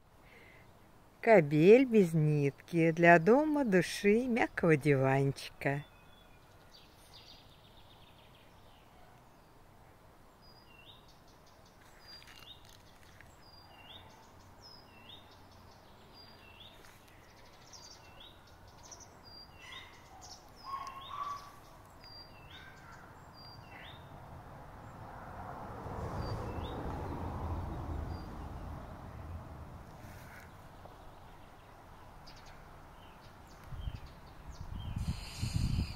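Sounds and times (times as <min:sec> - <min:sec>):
songbird chirping: 0:00.0 - 0:35.9.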